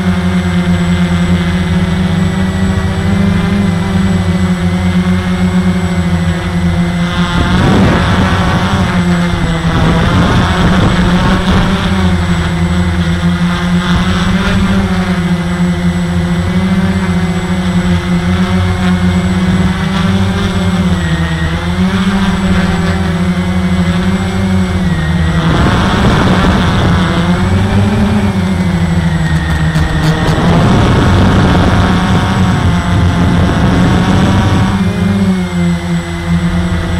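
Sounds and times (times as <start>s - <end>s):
quadcopter motors buzzing: 0.0s - 36.9s.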